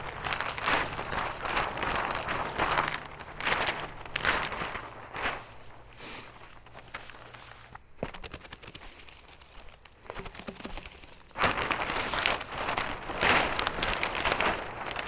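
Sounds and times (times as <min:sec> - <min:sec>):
plastic sheet crinkling: 0:00.0 - 0:15.0.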